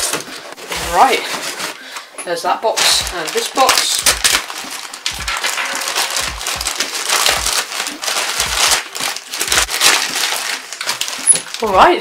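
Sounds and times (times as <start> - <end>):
plastic bag ripping and rustling: 0.0 - 1.8, 2.7 - 12.0.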